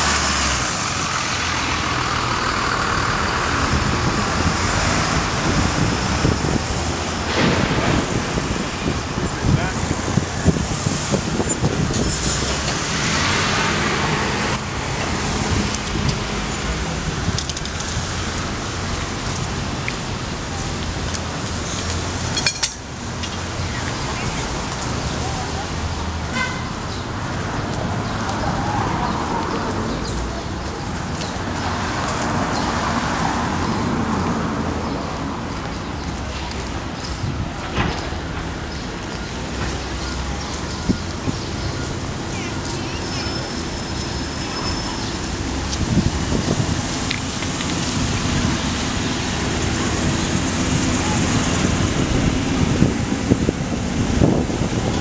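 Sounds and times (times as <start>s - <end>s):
low hum of slow traffic: 0.0s - 55.0s.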